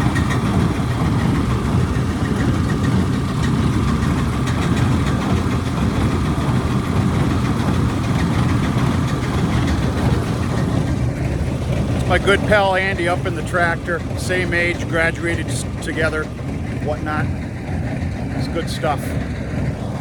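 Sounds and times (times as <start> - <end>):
tractor and baler droning: 0.0 - 20.0.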